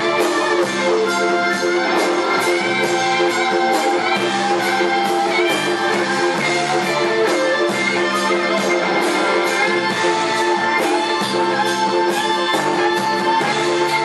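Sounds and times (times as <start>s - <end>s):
band drums steady beat: 0.0s - 14.0s
electric guitar lead notes: 0.0s - 14.0s.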